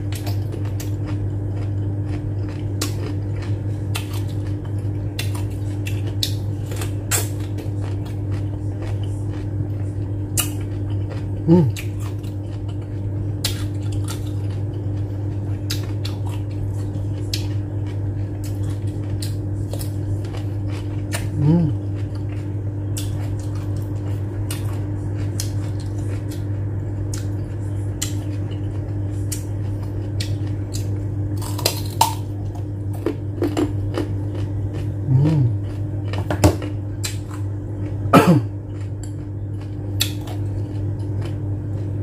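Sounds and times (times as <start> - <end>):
person chewing carrot: 0.0 - 42.0
steady low hum: 0.0 - 42.0.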